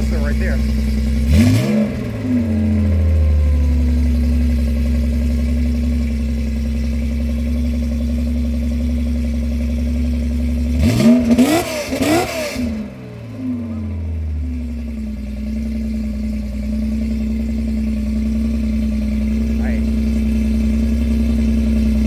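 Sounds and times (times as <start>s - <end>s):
car engine idling with throttle blips: 0.0s - 22.0s.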